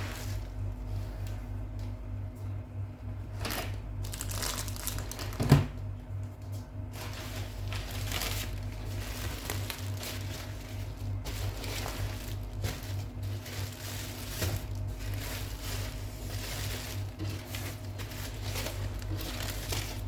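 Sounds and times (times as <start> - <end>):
crinkling and rustling: 0.0 - 2.0, 3.3 - 20.0.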